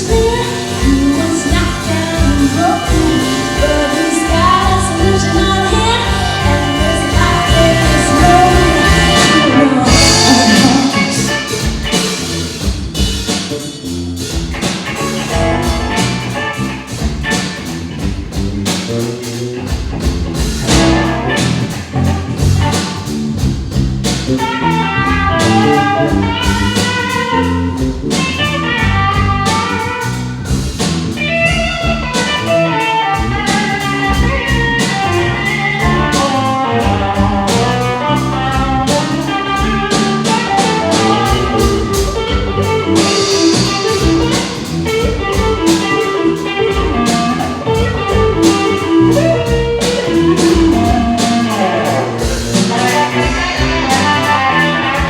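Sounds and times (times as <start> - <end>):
blues-rock band playing: 0.0 - 55.0
guitar lead line: 0.0 - 55.0.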